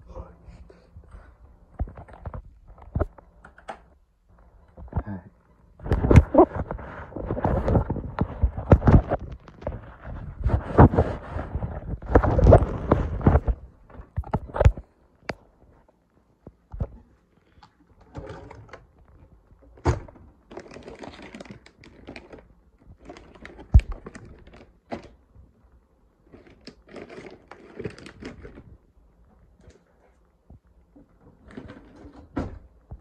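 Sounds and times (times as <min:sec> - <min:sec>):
rustling of items: 0:04.3 - 0:33.0.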